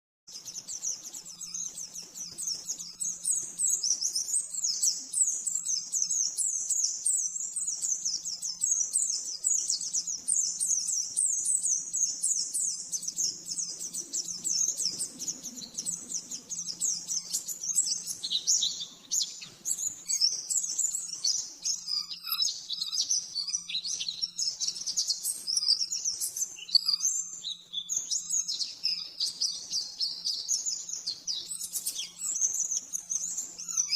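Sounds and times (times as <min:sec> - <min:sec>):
bird singing high chirps: 0:00.3 - 0:33.9.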